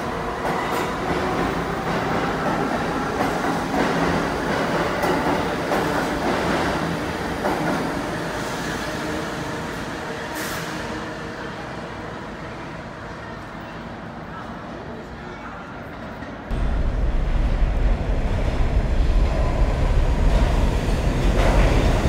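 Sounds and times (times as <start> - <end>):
subway train running past: 0.0 - 22.0.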